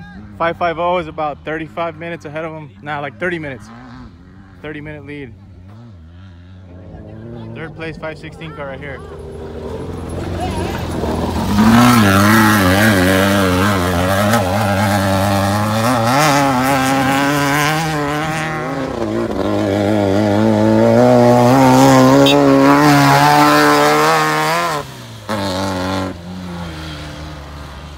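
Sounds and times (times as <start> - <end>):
race car engines revving: 0.0 - 27.9.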